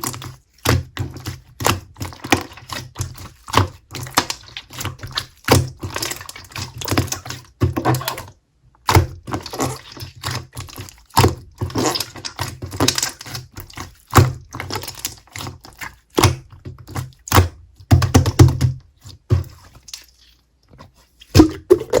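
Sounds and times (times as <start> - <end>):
slime squished by hand: 0.0 - 22.0.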